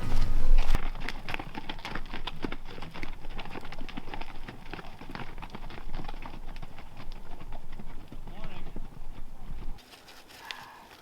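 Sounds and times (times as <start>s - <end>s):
hooves clopping on rocky trail: 0.0s - 11.0s.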